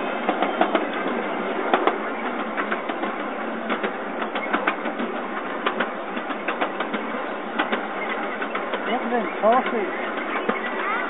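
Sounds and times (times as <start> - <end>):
small train rattling on track: 0.0 - 11.0
sharp clicks and knocks: 0.3 - 10.6.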